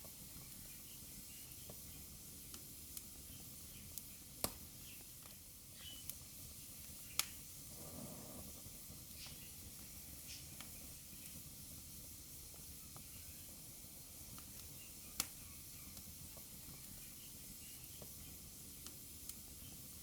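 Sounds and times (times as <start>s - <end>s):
fireplace fire hissing and popping: 0.0s - 20.0s.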